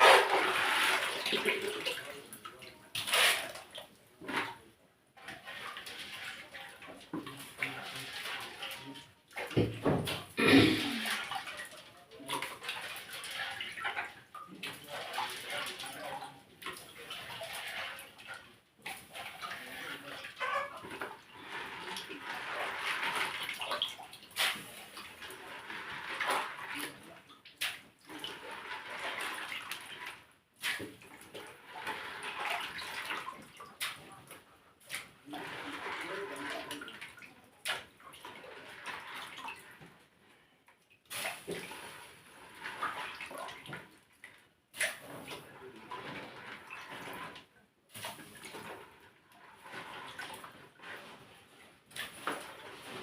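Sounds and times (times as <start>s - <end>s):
running splashing water: 0.0s - 40.0s, 41.1s - 53.0s.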